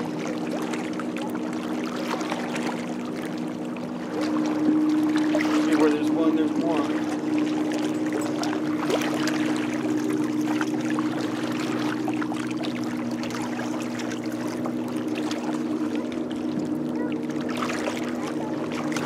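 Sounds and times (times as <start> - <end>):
low engine drone: 0.0 - 19.0
water lapping against rocks: 0.0 - 19.0.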